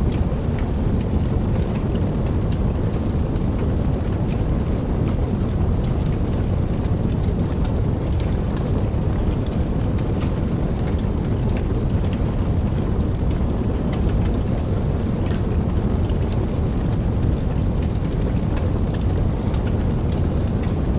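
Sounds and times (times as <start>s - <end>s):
fire burning with crackles: 0.0s - 20.9s.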